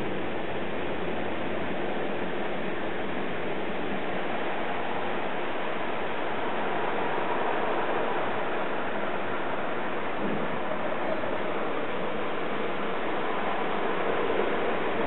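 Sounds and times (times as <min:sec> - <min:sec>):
water spraying over windscreen: 0:00.0 - 0:15.0.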